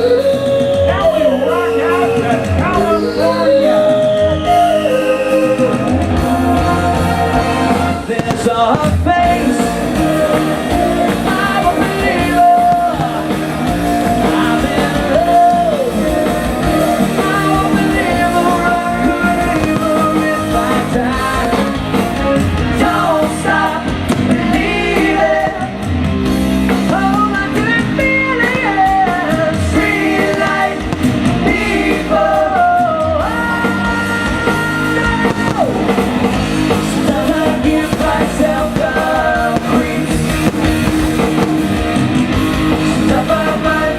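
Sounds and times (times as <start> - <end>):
lead singer singing: 0.0 - 43.9
live rock band playing: 0.0 - 43.9.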